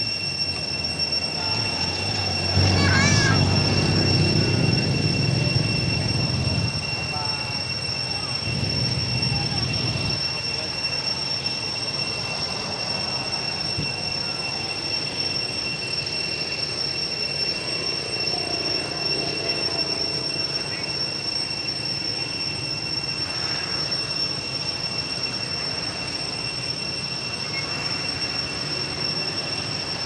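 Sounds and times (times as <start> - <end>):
high-pitched whine: 0.0 - 30.0.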